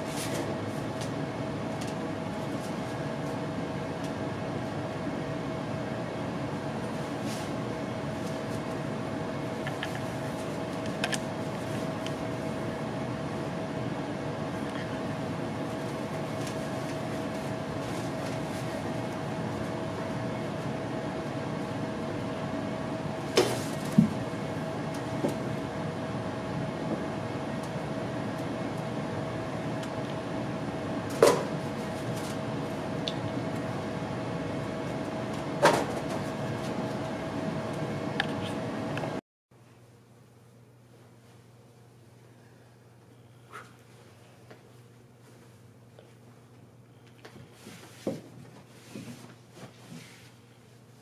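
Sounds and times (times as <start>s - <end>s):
steady room hum: 0.0s - 51.0s.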